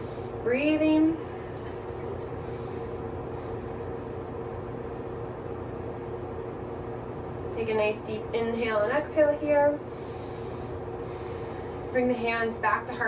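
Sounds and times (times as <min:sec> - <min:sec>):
faint constant hum: 0:00.0 - 0:13.0
low background rumble: 0:00.0 - 0:13.0.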